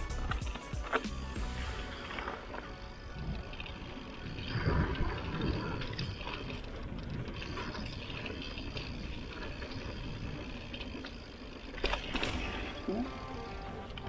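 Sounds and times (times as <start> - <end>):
bike rattles and clicks: 0.0 - 14.0
bike tyres on dirt: 0.0 - 14.0.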